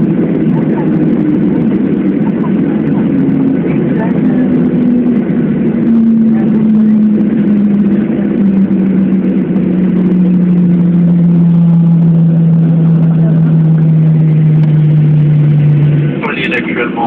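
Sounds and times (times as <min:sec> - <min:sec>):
jet engines winding down: 0:00.0 - 0:17.0.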